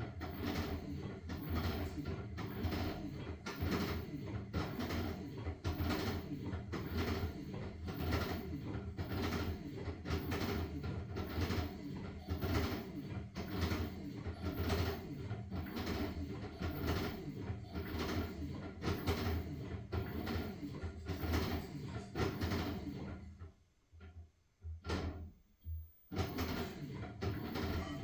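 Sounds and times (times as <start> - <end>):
washing machine motor hum: 0.0 - 28.0.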